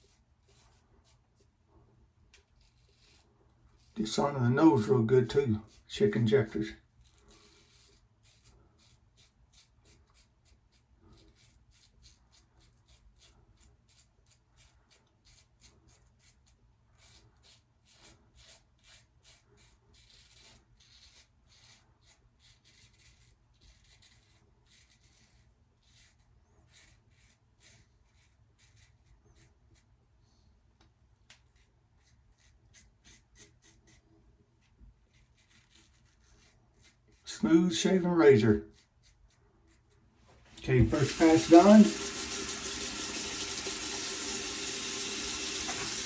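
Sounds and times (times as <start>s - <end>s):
razor scraping stubble: 0.0s - 1.5s, 2.3s - 30.0s, 31.3s - 46.0s.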